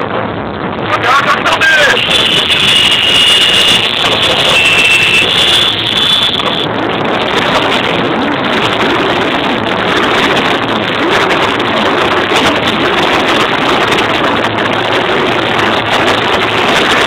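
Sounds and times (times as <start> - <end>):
many motorcycle engines revving: 0.0 - 17.0.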